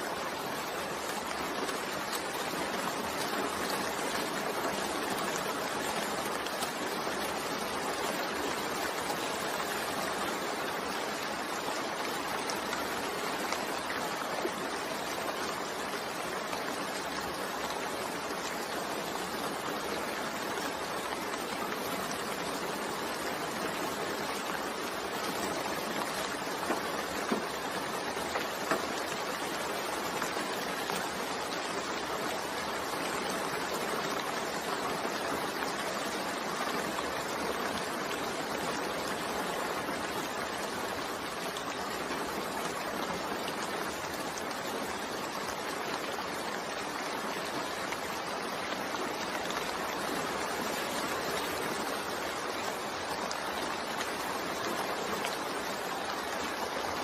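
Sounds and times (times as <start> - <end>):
faint drips and ticks: 0.0 - 57.0
steady rain hiss: 0.0 - 57.0.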